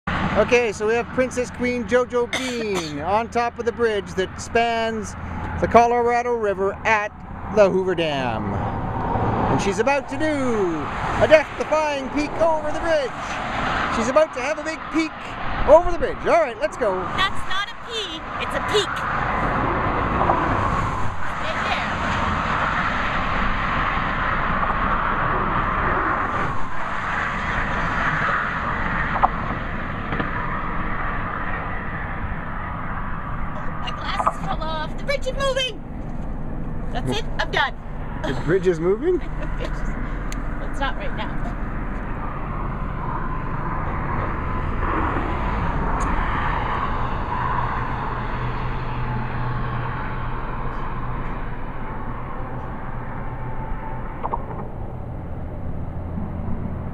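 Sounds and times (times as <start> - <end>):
road traffic rushing: 0.1 - 56.9.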